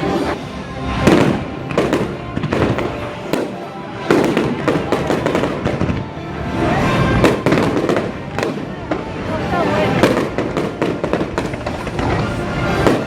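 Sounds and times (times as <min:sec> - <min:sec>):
fireworks banging and crackling: 0:00.0 - 0:13.0
loud music: 0:00.0 - 0:13.0.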